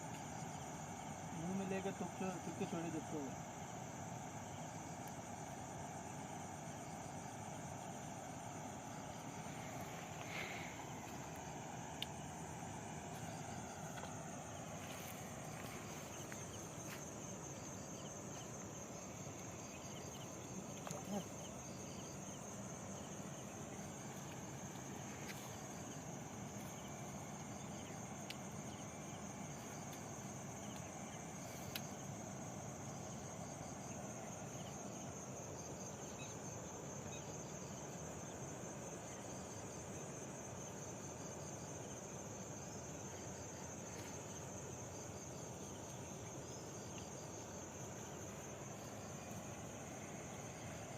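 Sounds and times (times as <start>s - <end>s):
insects trilling: 0.0s - 50.9s
outdoor hiss: 0.0s - 50.9s.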